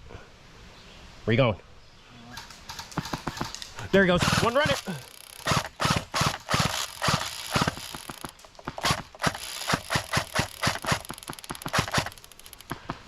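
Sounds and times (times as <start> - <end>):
running footsteps outdoors: 2.4 - 13.0.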